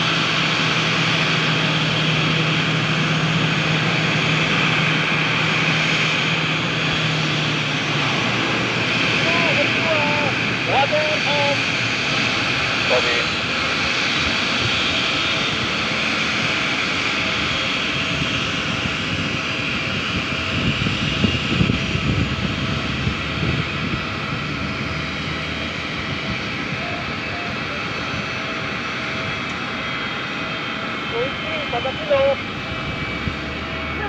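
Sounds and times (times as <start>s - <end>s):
jet engines idling: 0.0s - 34.0s
low rumbles: 0.0s - 34.0s.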